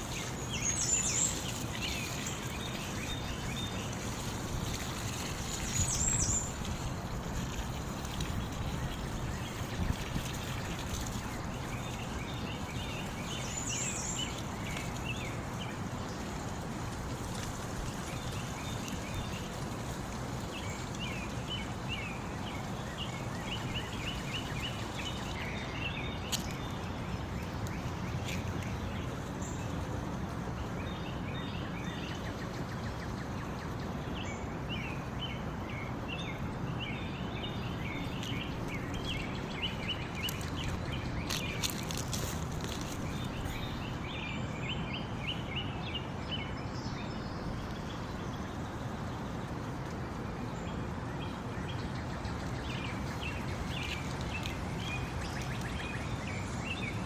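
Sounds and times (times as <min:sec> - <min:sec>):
running water: 0:00.0 - 0:57.0
songbirds chirping: 0:00.0 - 0:57.0.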